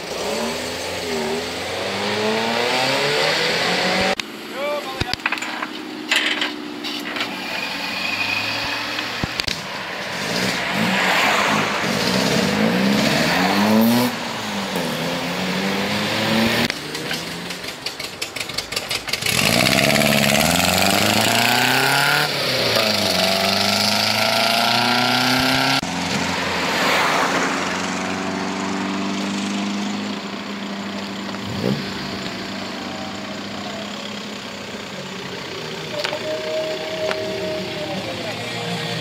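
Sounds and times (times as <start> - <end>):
car engines accelerating: 0.0 - 39.0.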